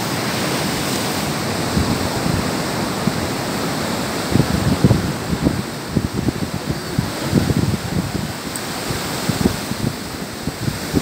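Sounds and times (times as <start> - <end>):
wind buffeting thumps: 0.0 - 11.0
wind rushing on microphone: 0.0 - 11.0.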